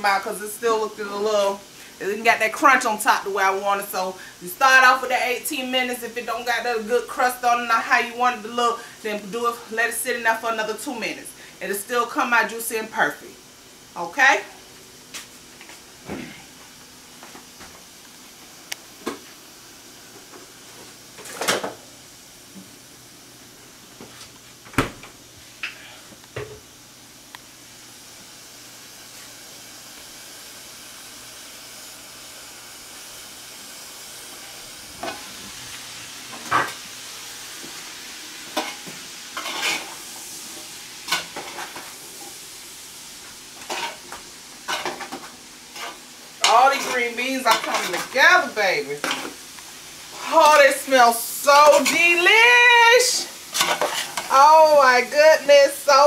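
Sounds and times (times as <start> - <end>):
beans sizzling in a pot: 0.0 - 56.0.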